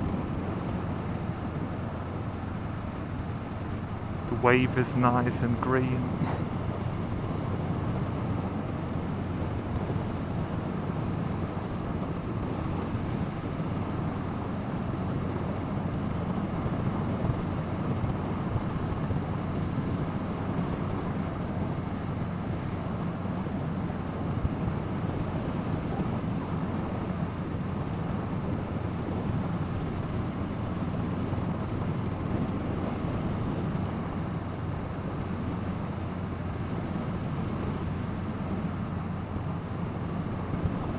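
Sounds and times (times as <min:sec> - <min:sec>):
motorcycle engine cruising: 0:00.0 - 0:40.9
wind rush over microphone: 0:00.0 - 0:40.9.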